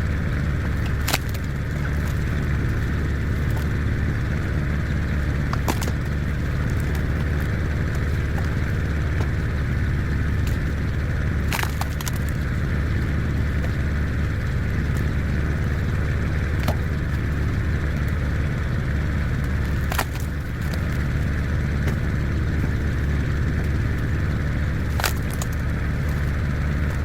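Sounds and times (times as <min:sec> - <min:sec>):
logs cracking as they split: 0:00.0 - 0:27.0
tractor engine running: 0:00.0 - 0:27.0.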